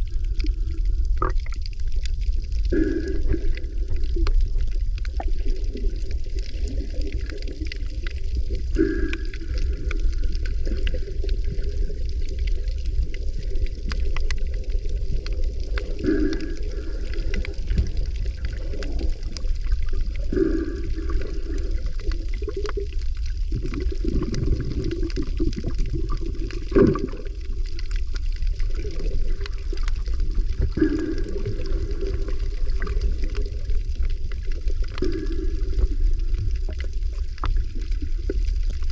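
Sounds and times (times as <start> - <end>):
steady low rumble: 0.0 - 38.9
water sloshing and gurgling: 0.0 - 38.9.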